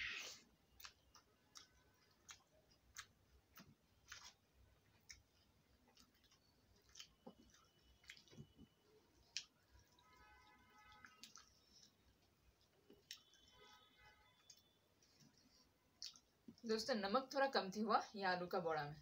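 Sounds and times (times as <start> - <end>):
chewing and mouth clicks: 0.6 - 13.7, 14.4 - 16.6.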